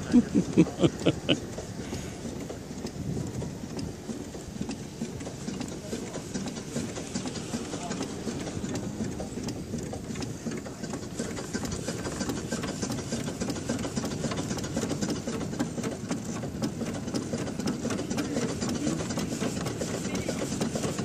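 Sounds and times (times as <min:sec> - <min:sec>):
steam car clattering: 0:00.0 - 0:21.0.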